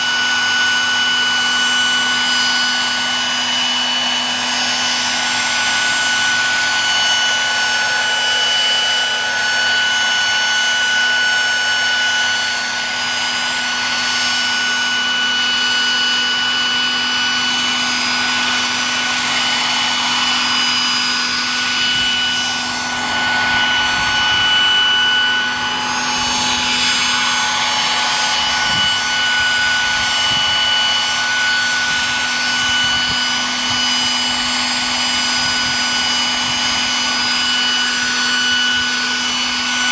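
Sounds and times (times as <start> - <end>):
high-pitched drivetrain whine: 0.0 - 39.9
rotor blades rushing: 0.0 - 39.9.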